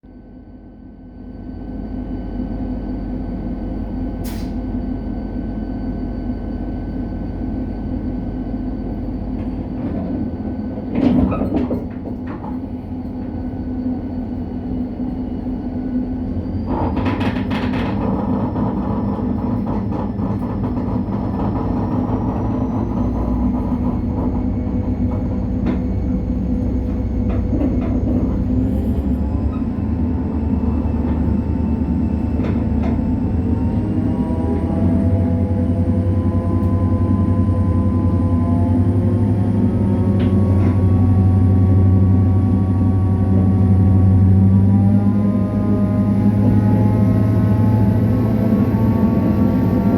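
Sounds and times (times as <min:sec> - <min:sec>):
diesel locomotive engine running: 0:00.1 - 0:49.9.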